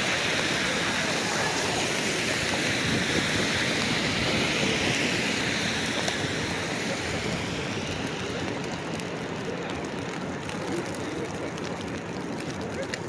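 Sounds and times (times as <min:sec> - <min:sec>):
city street rushing noise: 0:00.0 - 0:13.0.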